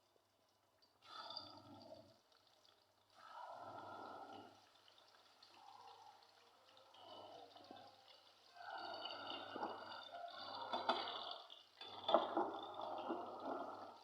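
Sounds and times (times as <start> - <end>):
water pouring and splashing: 2.6 - 14.0.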